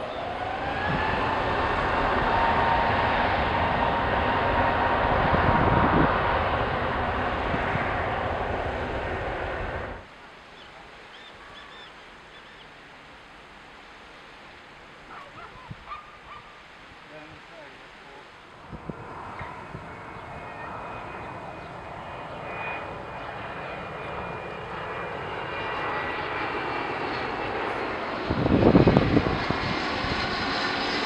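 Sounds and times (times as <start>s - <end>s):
jet engines roaring at takeoff: 0.0s - 31.0s.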